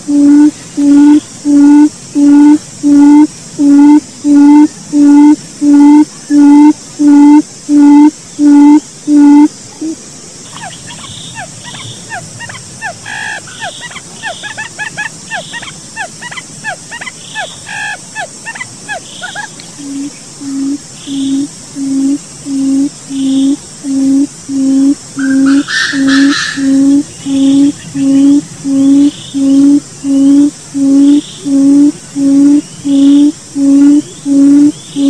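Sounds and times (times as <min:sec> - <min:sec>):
deep hooting bird calls: 0:00.0 - 0:35.0.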